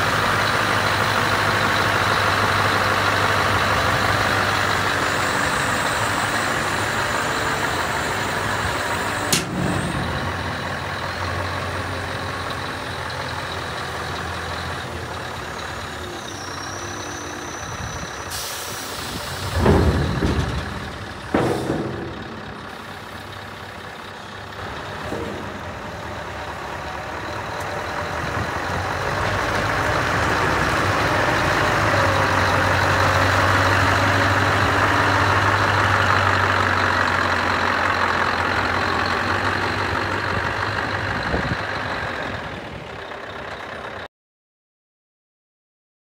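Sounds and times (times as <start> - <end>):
truck diesel engine idling: 0.0 - 44.1.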